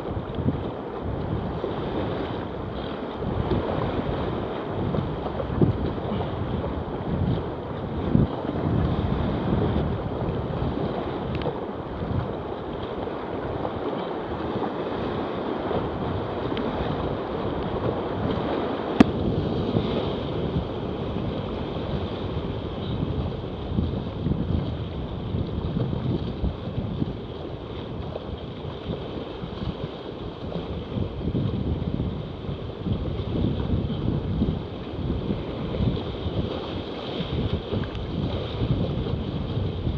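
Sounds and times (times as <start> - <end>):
rapids rushing and splashing: 0.0 - 39.9
wind buffeting microphone: 0.0 - 39.9.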